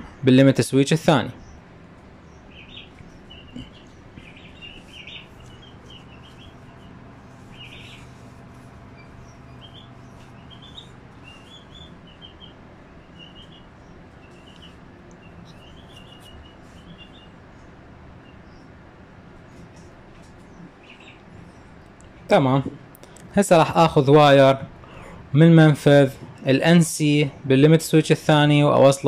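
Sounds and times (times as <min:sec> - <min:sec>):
faint low hum: 0:00.0 - 0:29.0
small birds chirping: 0:00.0 - 0:29.0.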